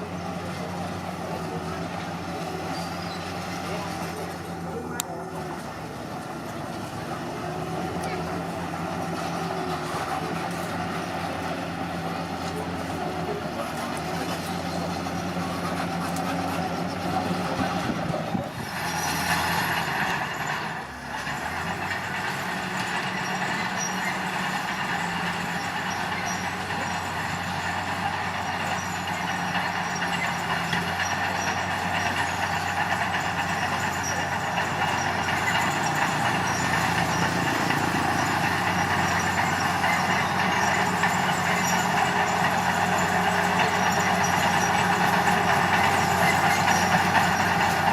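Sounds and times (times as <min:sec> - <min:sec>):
diesel earthmoving machinery running: 0:00.0 - 0:47.9.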